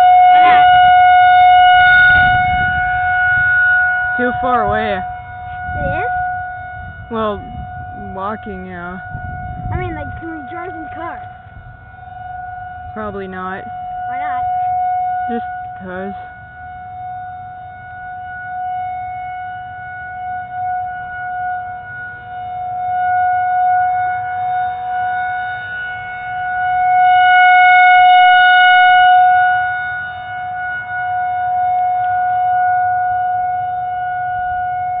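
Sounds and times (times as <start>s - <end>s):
tornado warning siren: 0.0s - 35.0s.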